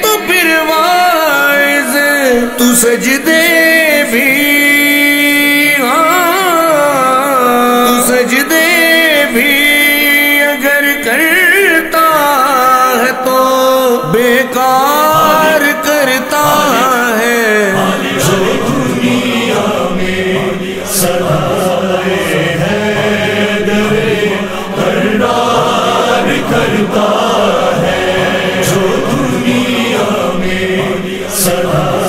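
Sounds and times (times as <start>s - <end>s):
chorus chanting devotional song: 0.0s - 32.0s.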